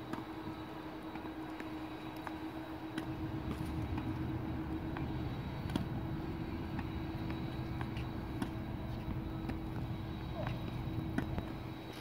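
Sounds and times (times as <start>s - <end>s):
constant hum: 0.0s - 12.0s
low background rumble: 0.0s - 12.0s.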